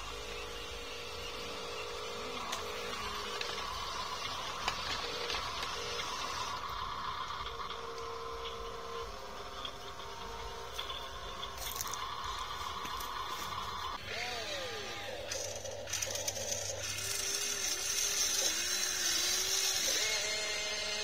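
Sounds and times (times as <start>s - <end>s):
lower motor whine: 0.0s - 21.0s
small electric motors whining: 0.0s - 21.0s.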